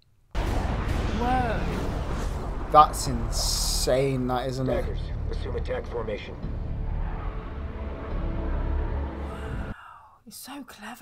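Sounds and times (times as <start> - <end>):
fighter jets rumbling: 0.4 - 9.7
tense orchestral music: 0.4 - 9.8.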